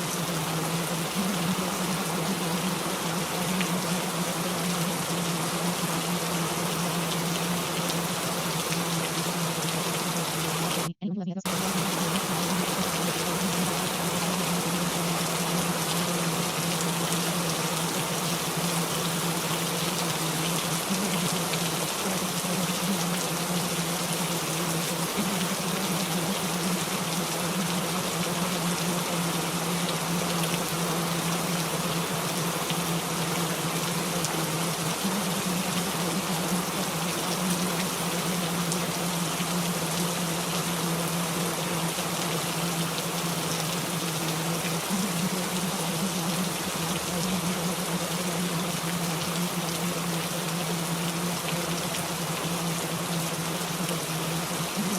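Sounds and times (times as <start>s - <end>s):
rain hissing: 0.0s - 10.9s, 11.5s - 54.9s.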